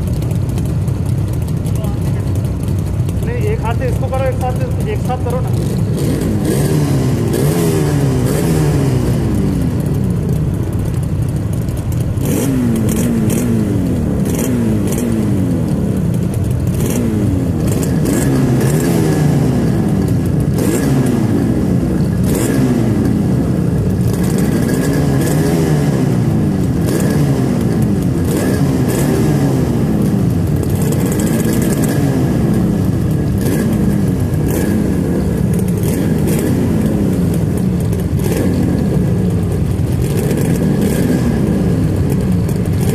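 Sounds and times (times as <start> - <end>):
exhaust crackles: 0.0 - 42.9
motorcycle engines running: 0.0 - 42.9.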